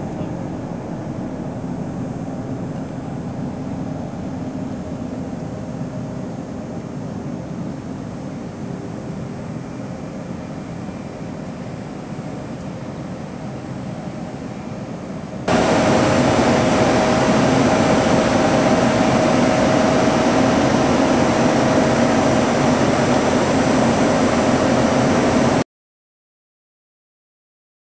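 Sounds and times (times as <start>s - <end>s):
mechanical drone with whine: 0.0s - 25.6s.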